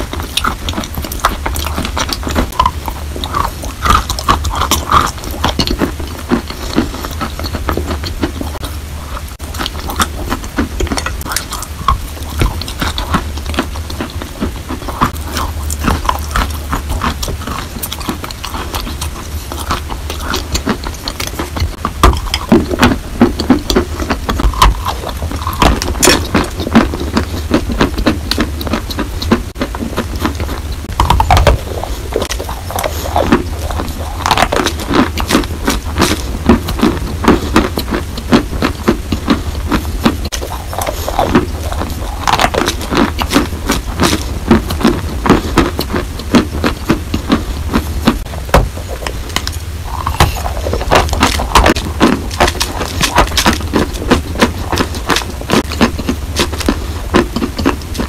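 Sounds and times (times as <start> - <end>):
chewing and crunching chalk: 0.0 - 58.0
wet mouth sounds: 0.0 - 58.0.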